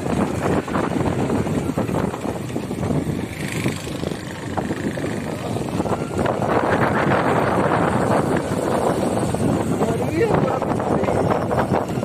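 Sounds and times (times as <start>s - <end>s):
motorcycle engine running: 0.0s - 12.0s
wind buffeting on microphone: 0.0s - 12.0s.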